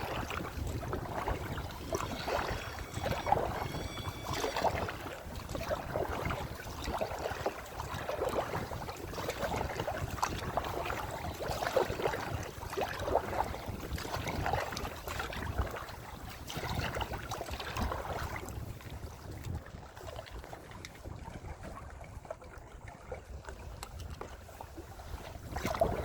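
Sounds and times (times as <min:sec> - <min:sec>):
paddle splashing in water: 0:00.0 - 0:26.0
water lapping around boat: 0:00.0 - 0:26.0
wind buffeting microphone: 0:00.0 - 0:26.0.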